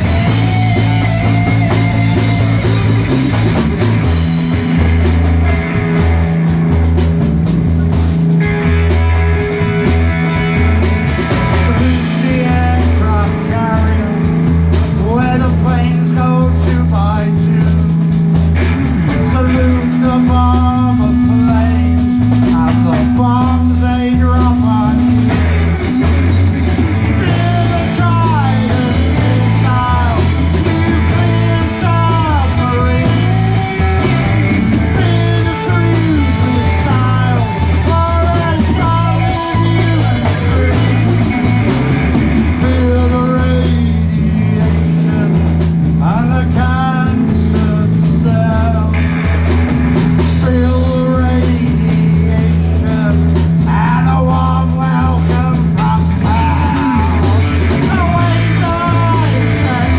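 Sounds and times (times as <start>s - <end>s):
electric guitar bending notes: 0.0s - 59.9s
live rock band playing: 0.0s - 59.9s.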